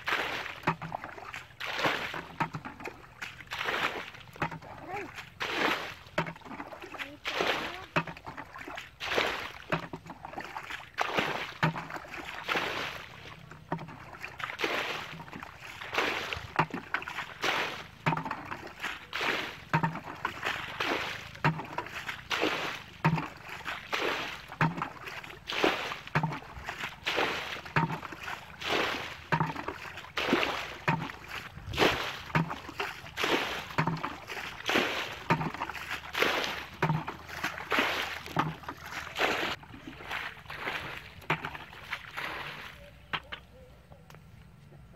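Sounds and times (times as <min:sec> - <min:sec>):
water sloshing and splashing: 0:00.0 - 0:43.4.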